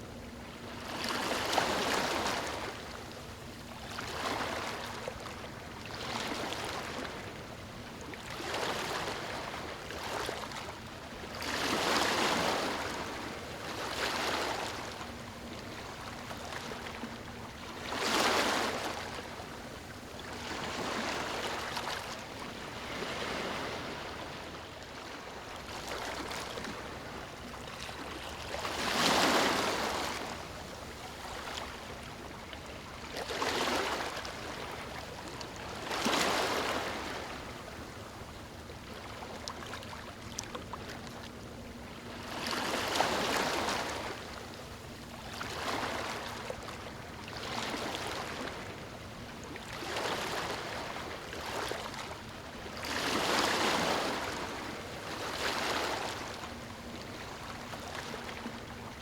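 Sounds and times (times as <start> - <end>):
small waves lapping on a beach: 0.0 - 59.0.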